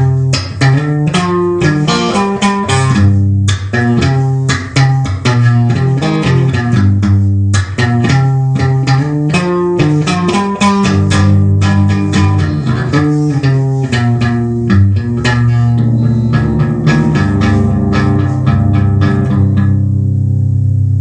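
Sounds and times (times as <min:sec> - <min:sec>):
guitar riff of picked notes: 0:00.0 - 0:21.0.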